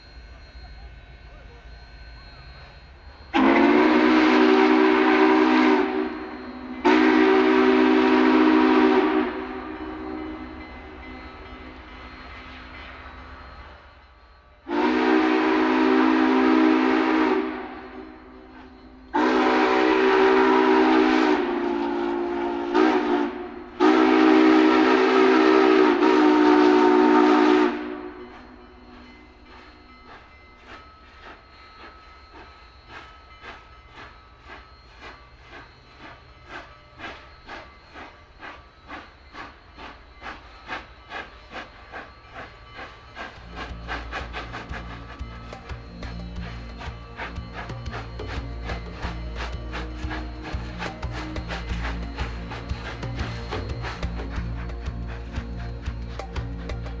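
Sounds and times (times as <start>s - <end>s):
steam locomotive whistle: 0.0s - 57.0s
steam exhaust chuffing: 3.0s - 13.8s, 14.7s - 57.0s.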